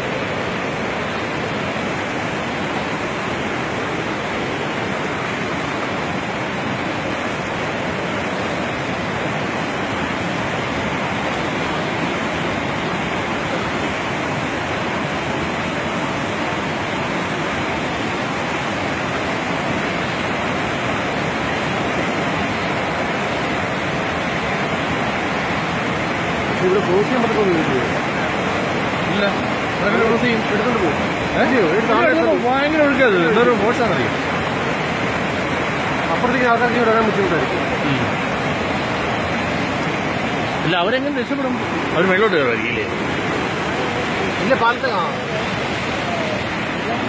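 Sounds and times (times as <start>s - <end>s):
flooded river rushing: 0.0s - 47.0s.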